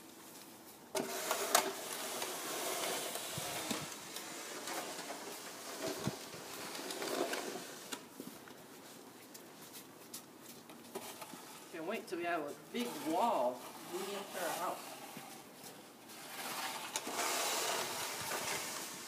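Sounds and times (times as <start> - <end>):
snow shovel scraping concrete: 0.9 - 8.1, 10.9 - 19.0.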